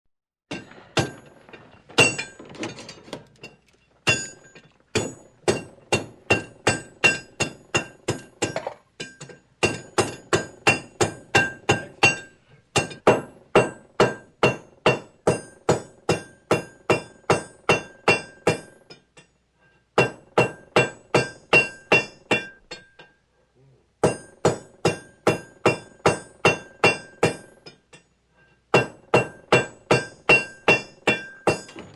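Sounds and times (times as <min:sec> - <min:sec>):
hammer striking metal on anvil: 0:00.5 - 0:01.3, 0:02.0 - 0:02.5, 0:04.0 - 0:19.3, 0:20.0 - 0:23.2, 0:24.0 - 0:28.1, 0:28.7 - 0:31.9.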